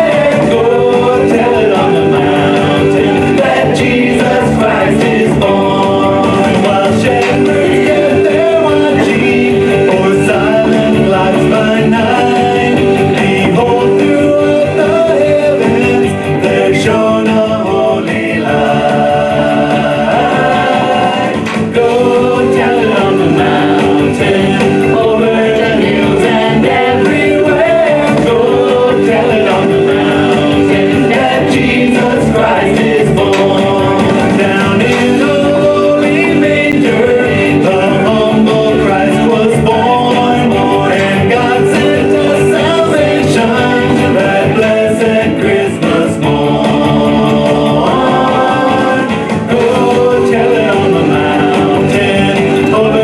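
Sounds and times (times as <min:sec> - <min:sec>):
song with singing over instruments: 0:00.0 - 0:53.0.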